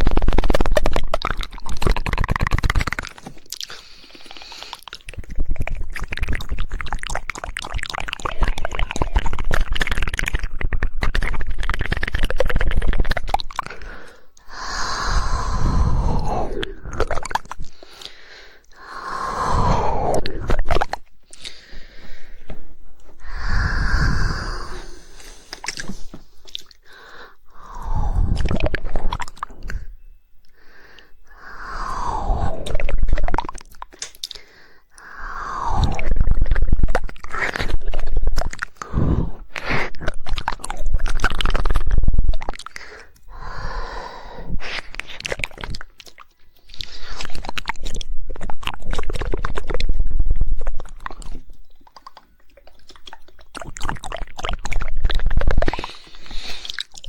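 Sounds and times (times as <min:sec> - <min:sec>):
tongue clicks: 0:00.0 - 0:21.7, 0:22.4 - 0:57.0
wet mouth smacking: 0:00.0 - 0:57.0.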